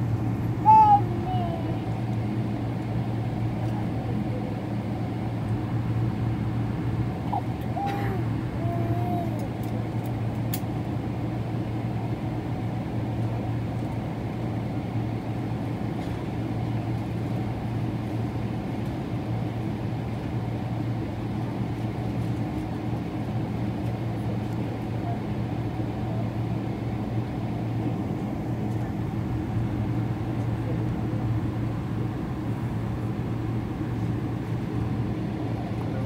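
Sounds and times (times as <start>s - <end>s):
airplane cabin low hum: 0.0s - 36.0s.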